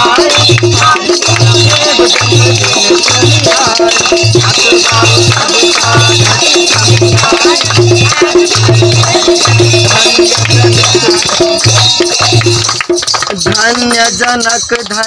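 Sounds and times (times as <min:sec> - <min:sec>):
deep drum beat: 0:00.0 - 0:14.4
crowd clapping along: 0:00.0 - 0:15.0
high percussion: 0:00.0 - 0:15.0.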